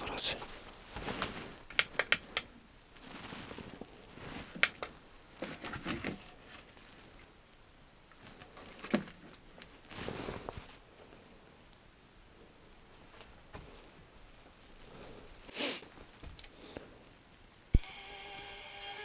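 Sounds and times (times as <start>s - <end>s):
rustling: 0.0s - 17.8s.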